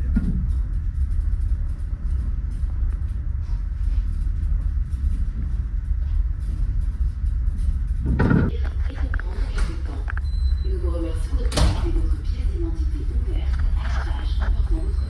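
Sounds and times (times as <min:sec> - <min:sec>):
gusting low rumble: 0:00.0 - 0:15.0.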